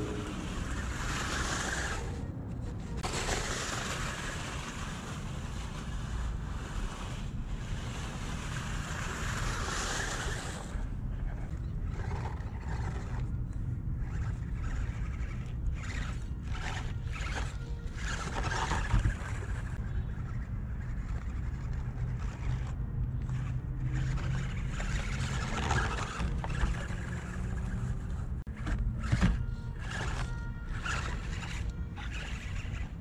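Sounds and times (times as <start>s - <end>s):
toy car scraping through plants: 0.0s - 33.0s.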